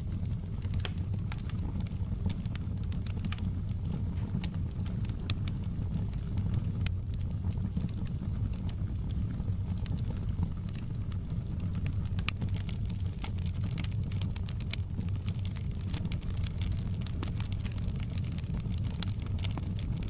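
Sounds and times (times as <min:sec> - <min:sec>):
fire low rumble: 0:00.0 - 0:20.0
wood fire crackling and popping: 0:00.0 - 0:20.0.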